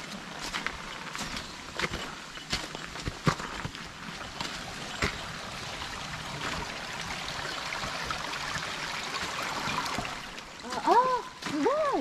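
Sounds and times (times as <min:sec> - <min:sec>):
footsteps on trail: 0:00.0 - 0:08.2, 0:09.0 - 0:12.0
mountain stream rushing: 0:00.0 - 0:12.0.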